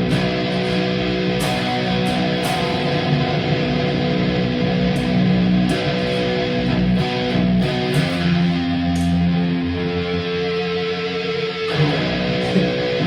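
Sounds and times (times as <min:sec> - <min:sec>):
distorted electric guitar riff: 0:00.0 - 0:13.0.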